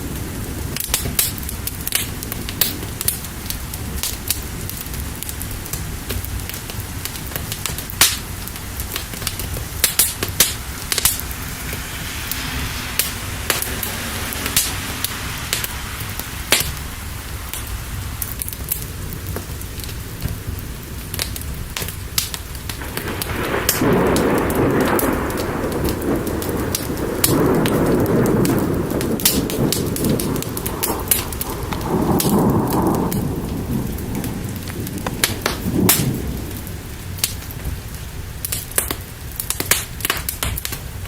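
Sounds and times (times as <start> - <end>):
steady rain: 0.0 - 41.0
thunder rumbling: 0.0 - 41.0
wood fire crackling: 0.0 - 41.0.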